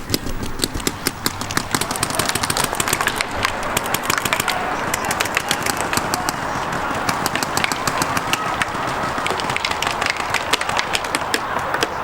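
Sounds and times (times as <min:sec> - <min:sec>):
paintball markers firing: 0:00.0 - 0:12.0.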